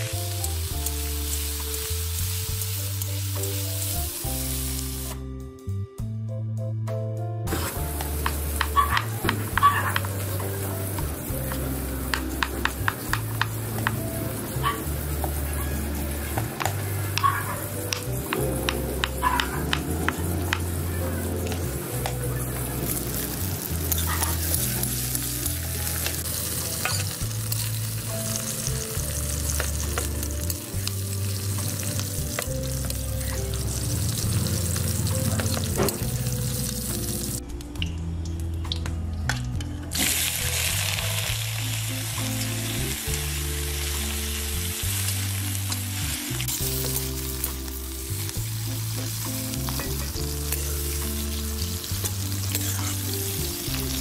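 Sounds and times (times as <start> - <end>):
vegetables sizzling in oil: 0.0 - 5.2, 7.5 - 37.4, 39.9 - 54.0.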